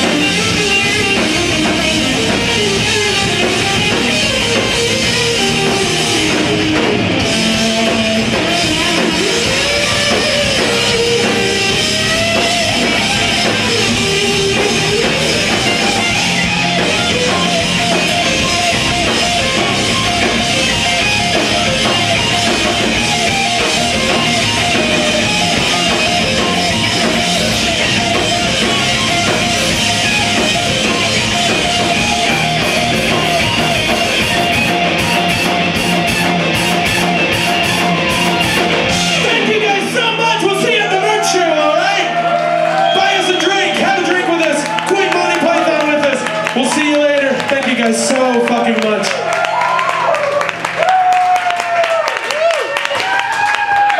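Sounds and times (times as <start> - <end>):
rock band playing loud: 0.0 - 53.9.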